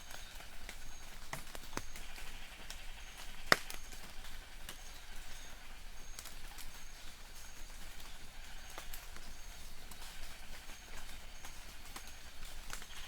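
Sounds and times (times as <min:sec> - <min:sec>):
raindrops tapping on leaves: 0:00.0 - 0:13.0.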